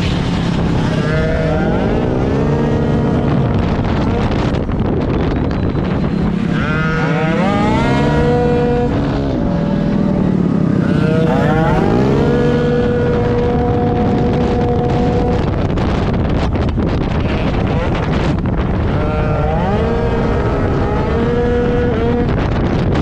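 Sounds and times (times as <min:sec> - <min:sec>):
scooter engine accelerating: 0:00.0 - 0:23.0.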